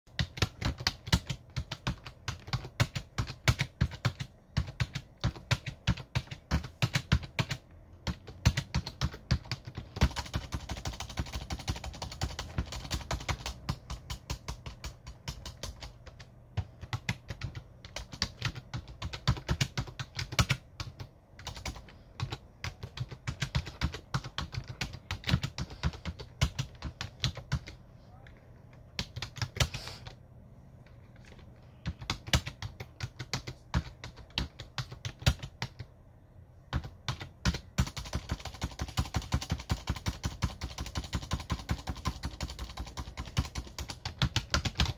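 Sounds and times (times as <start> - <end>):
typing on computer keyboard: 0.1 - 30.2, 31.2 - 36.0, 36.7 - 44.9.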